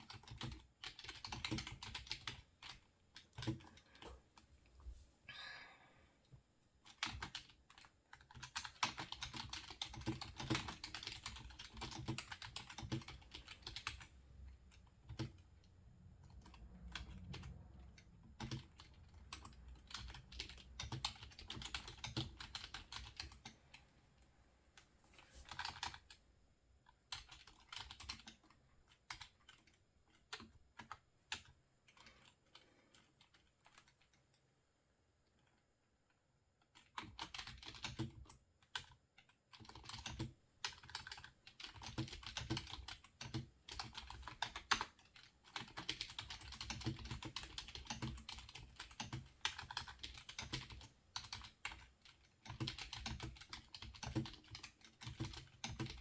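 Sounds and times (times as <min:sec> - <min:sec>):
typing on computer keyboard: 0:00.0 - 0:04.1, 0:06.8 - 0:14.1, 0:14.8 - 0:23.6, 0:25.5 - 0:26.2, 0:26.8 - 0:34.4, 0:36.6 - 0:56.0.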